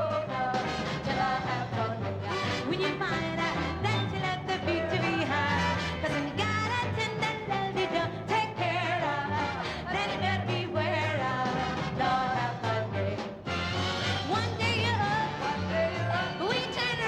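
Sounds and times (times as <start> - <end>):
band accompaniment with bass: 0.0 - 17.0.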